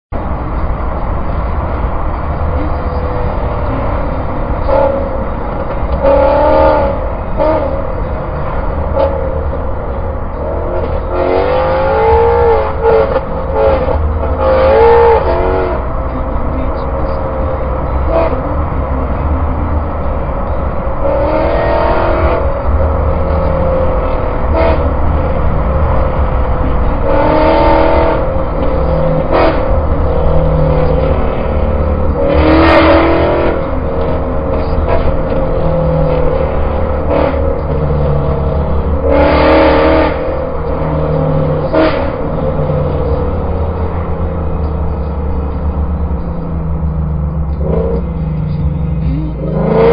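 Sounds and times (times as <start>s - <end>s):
wind and road noise: 0.1s - 49.9s
car engine revving: 0.2s - 49.9s.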